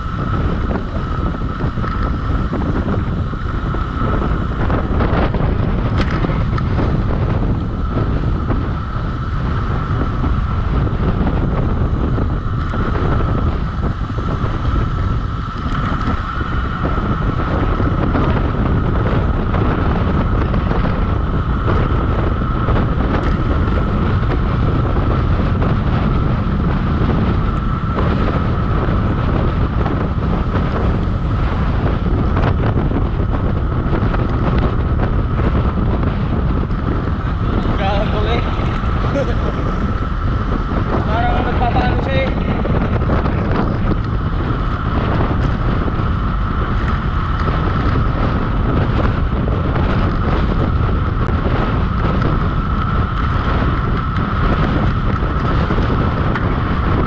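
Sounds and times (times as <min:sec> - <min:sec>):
steady high whine: 0:00.0 - 0:57.0
wind buffeting microphone: 0:00.0 - 0:57.0.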